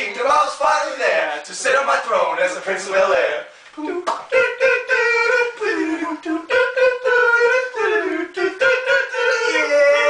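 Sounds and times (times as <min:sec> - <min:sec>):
men singing a wordless tune: 0:00.0 - 0:10.0.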